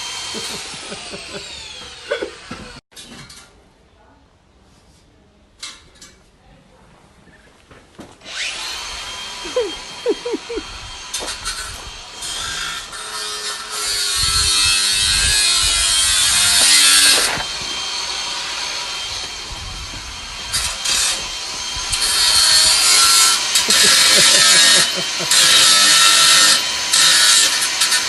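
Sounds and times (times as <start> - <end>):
power tool sawing: 0.0 - 2.8, 8.2 - 28.0.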